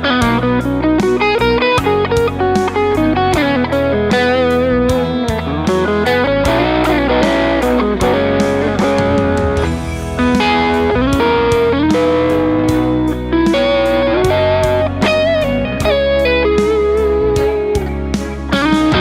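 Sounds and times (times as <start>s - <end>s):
backing track with drum beat: 0.0s - 19.0s
electric guitar lead line: 0.0s - 19.0s.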